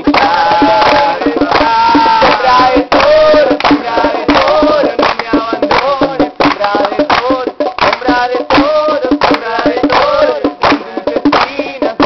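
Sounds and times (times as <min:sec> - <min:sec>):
music with percussion hits: 0:00.0 - 0:12.0.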